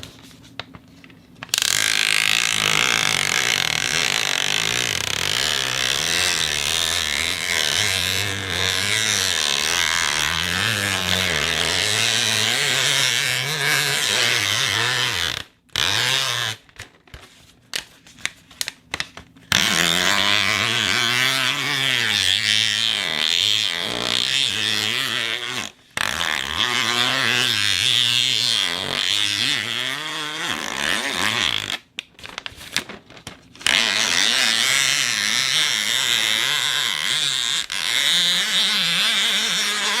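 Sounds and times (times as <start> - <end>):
packing material scrunching and squeaking: 1.5 - 16.8, 19.5 - 40.0.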